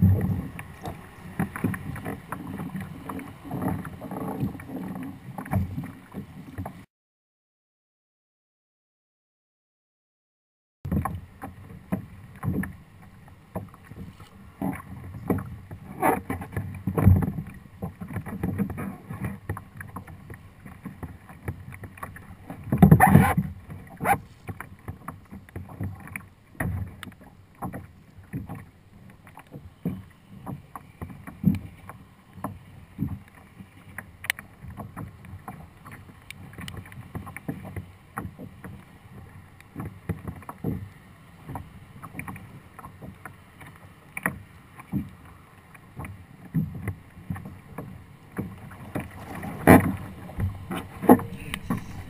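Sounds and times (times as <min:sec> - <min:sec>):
knocks and thumps in boat: 0:00.0 - 0:06.9, 0:10.9 - 0:52.0
water slapping against kayak hull: 0:00.0 - 0:06.9, 0:10.9 - 0:52.0.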